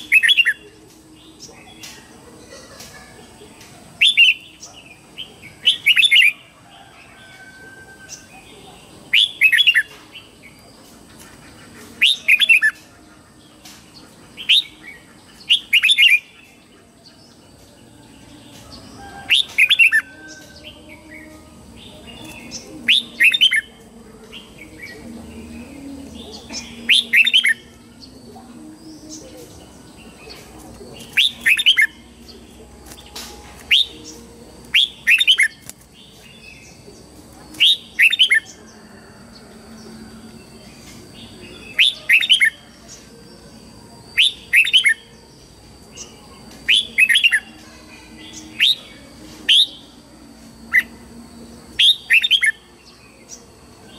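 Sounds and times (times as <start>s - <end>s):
bird warbling song: 0.0s - 43.2s, 50.6s - 53.9s.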